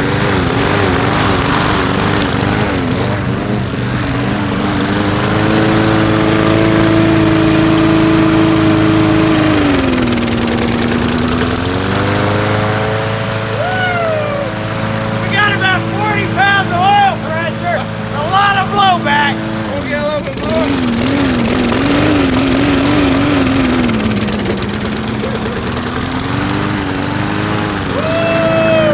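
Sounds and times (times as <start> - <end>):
lawn mower engine running: 0.0 - 28.9.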